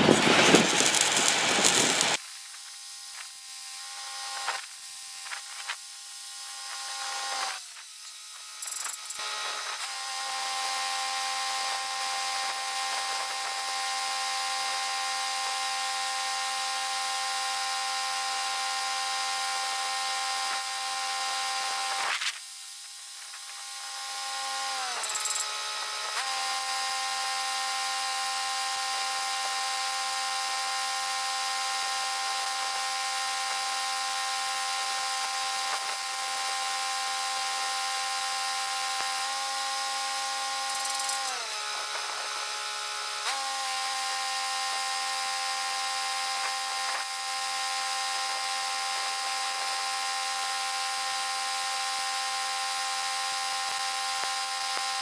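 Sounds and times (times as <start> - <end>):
welding arc crackle and hiss: 0.0 - 55.0
welding machine hum: 0.0 - 55.0.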